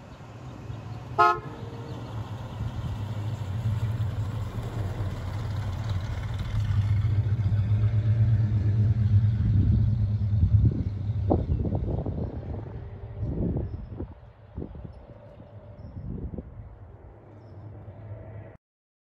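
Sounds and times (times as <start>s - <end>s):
car engine driving away: 0.1s - 15.9s.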